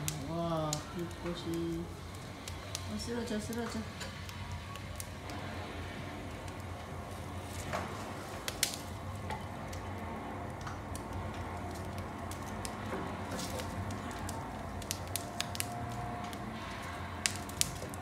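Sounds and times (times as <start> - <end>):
firewood crackling and popping: 0.0 - 18.0
wood stove low rumble: 0.0 - 18.0.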